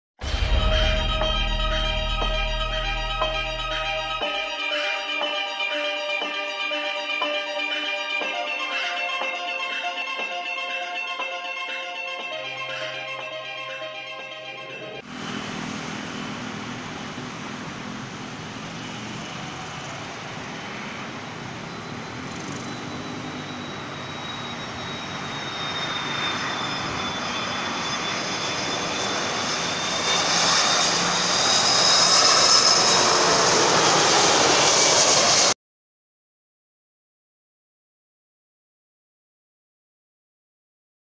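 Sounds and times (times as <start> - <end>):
jet engines rushing and whining: 0.2 - 35.6.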